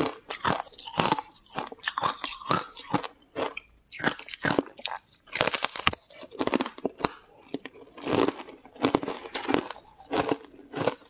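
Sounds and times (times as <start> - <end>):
person crunching brittle food: 0.0 - 11.0.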